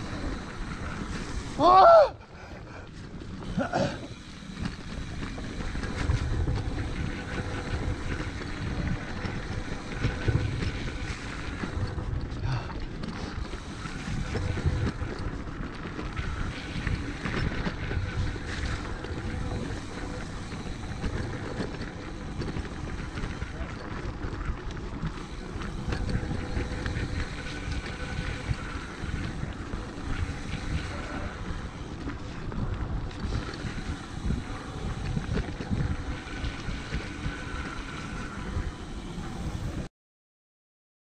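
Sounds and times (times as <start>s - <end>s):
bike tyres rumbling on trail: 0.0s - 39.9s
wind on microphone: 0.0s - 39.9s.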